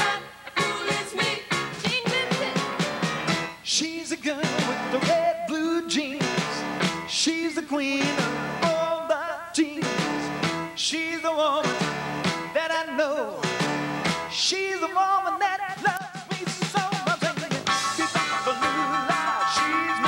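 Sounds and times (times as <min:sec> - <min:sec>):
rock and roll band playing: 0:00.0 - 0:03.6, 0:04.3 - 0:07.3, 0:07.9 - 0:09.0, 0:09.7 - 0:10.8, 0:11.5 - 0:20.0
high lead vocal: 0:00.0 - 0:20.0.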